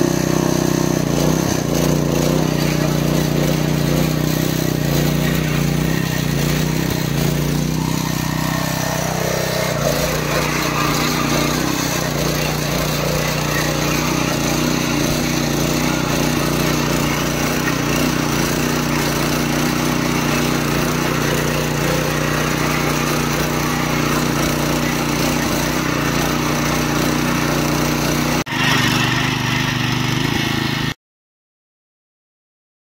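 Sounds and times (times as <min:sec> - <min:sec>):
small tiller engine running: 0:00.0 - 0:31.0.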